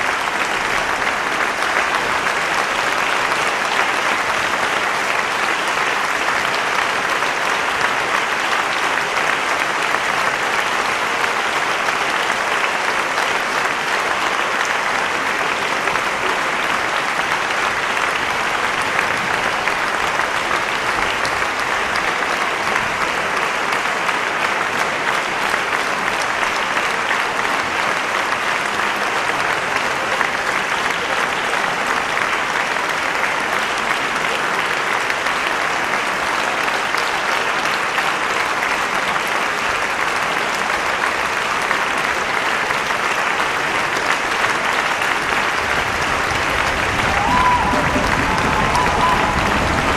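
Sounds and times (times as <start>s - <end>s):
audience applauding: 0.0s - 49.9s.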